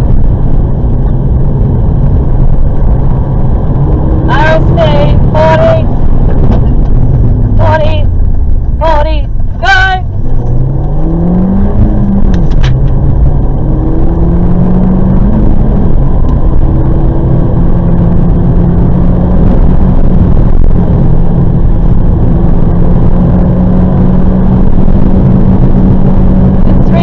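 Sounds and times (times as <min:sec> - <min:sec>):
car engine accelerating hard: 0:00.0 - 0:27.0
tyre and road noise: 0:00.0 - 0:27.0.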